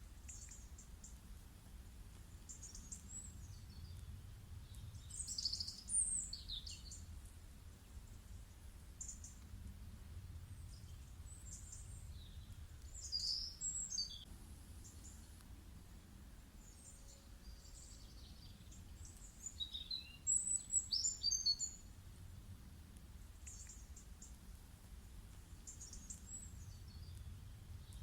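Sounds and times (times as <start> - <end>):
faint low background noise: 0.0 - 28.0
songbirds chirping: 0.0 - 28.0.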